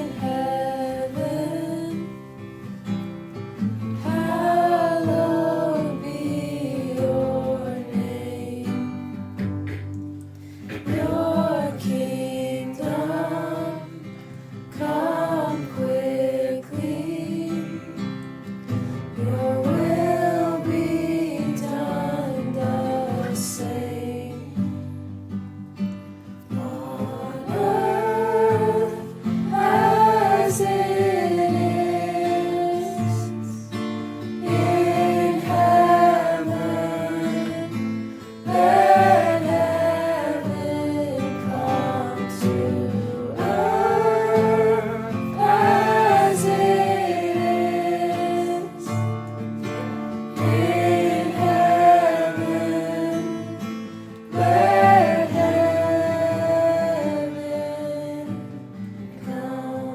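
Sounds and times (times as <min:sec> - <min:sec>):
person singing worship song: 0:00.0 - 0:02.8, 0:03.9 - 0:09.2, 0:10.5 - 0:25.0, 0:26.4 - 0:49.1, 0:50.3 - 0:59.9
guitar accompaniment: 0:00.0 - 0:59.9.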